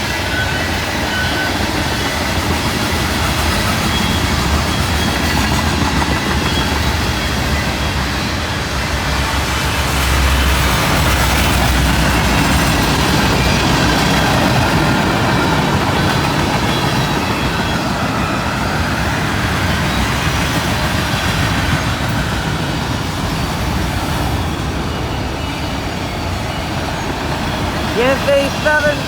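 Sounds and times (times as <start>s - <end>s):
freight train wheels rushing on rails: 0.0s - 29.0s.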